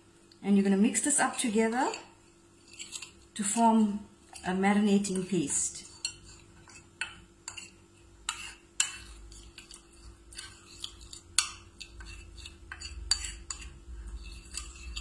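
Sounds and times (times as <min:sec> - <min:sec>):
metal spoon scraping ceramic dish: 0:01.8 - 0:15.0.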